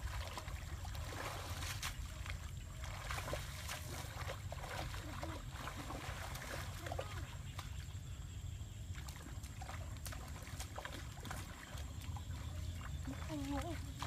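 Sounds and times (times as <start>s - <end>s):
small splashes: 0.0s - 8.0s, 8.9s - 14.0s
water trickling: 0.0s - 8.0s, 8.8s - 14.0s.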